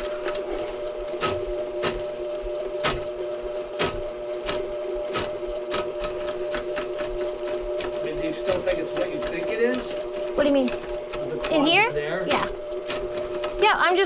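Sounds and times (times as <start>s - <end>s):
drain-cleaning machine humming: 0.0s - 14.0s
cable clicking and clacking: 0.2s - 2.2s, 2.8s - 3.2s, 3.8s - 11.6s, 12.3s - 13.7s.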